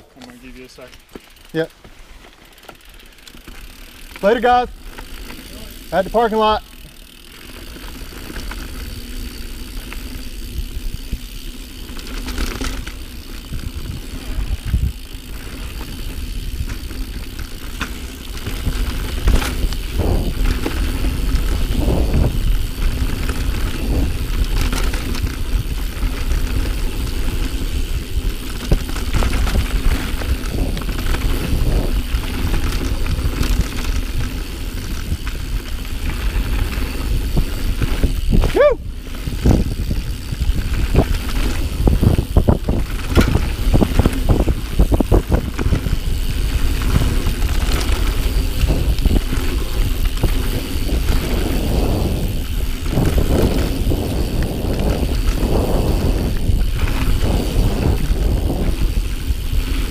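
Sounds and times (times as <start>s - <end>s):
bike rattling over bumps: 0.0s - 59.9s
wind rumbling on microphone: 7.7s - 59.9s
tyres rolling over dirt: 11.4s - 59.9s.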